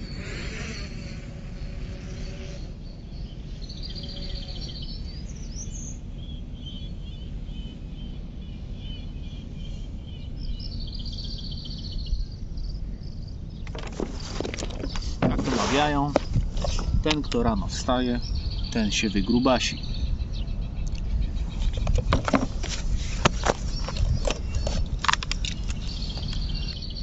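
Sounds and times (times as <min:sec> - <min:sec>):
low outdoor rumble: 0:00.0 - 0:27.0
songbirds singing: 0:00.0 - 0:27.0.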